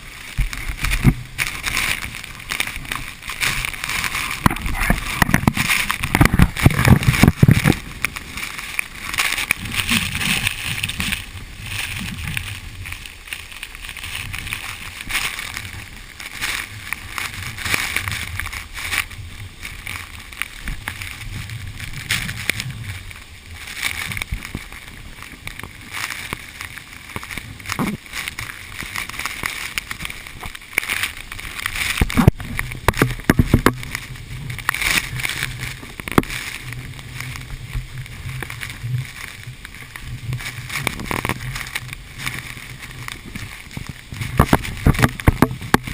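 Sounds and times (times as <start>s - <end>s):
wind buffeting the microphone: 0.0s - 45.9s.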